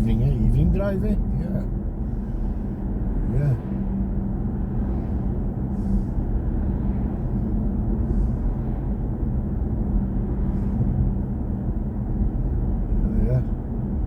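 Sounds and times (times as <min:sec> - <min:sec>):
constant low hum: 0:00.0 - 0:14.0
road and tyre rumble: 0:00.0 - 0:14.0.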